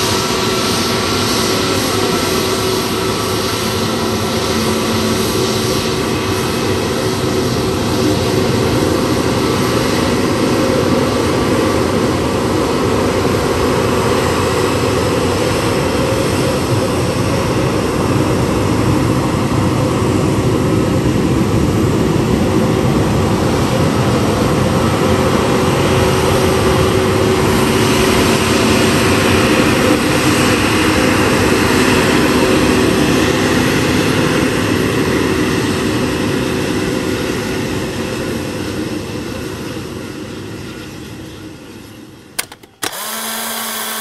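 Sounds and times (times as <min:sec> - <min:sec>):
jet engines whining: 0:00.0 - 0:37.8, 0:40.0 - 0:44.0.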